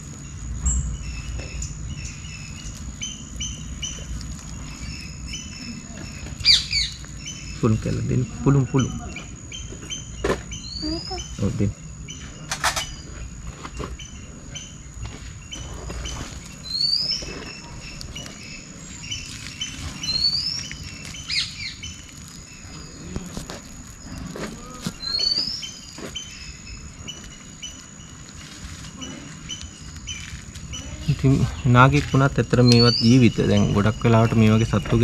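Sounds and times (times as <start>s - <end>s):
bird chirps: 0.0s - 35.0s
high-pitched insect drone: 0.0s - 35.0s.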